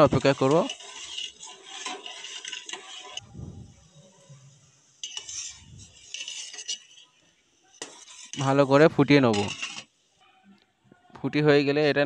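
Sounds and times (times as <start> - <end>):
metal spoon scraping a pot: 0.0 - 10.2.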